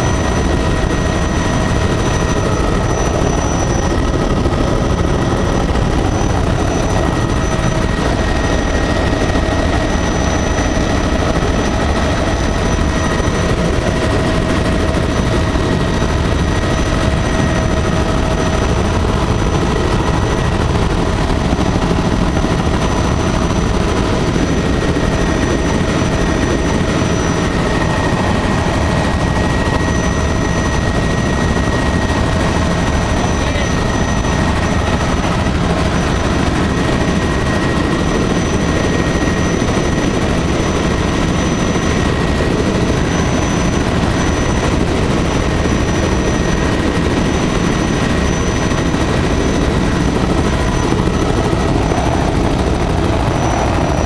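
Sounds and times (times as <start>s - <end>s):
helicopter rotor and engine rumble: 0.0s - 54.0s
high-pitched whine tones: 0.0s - 54.0s.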